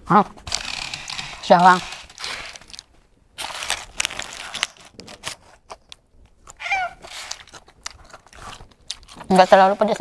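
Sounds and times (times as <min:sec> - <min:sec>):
paper wrapper crinkling: 0:00.4 - 0:10.0.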